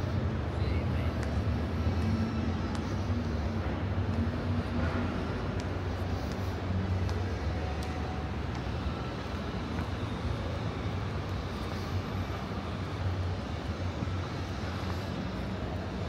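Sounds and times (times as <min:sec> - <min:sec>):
city background rumble: 0:00.0 - 0:16.0.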